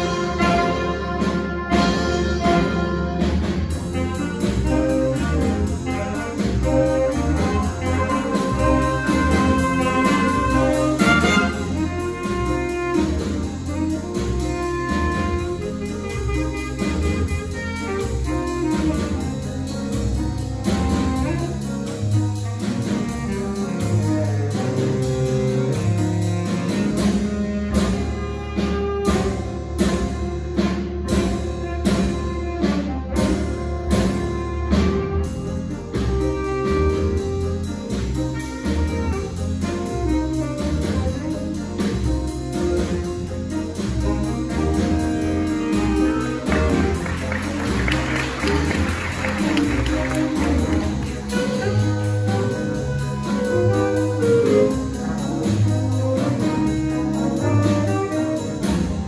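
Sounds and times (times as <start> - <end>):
drum kit ticking beat: 0.0 - 59.0
jazz big band playing: 0.0 - 59.0.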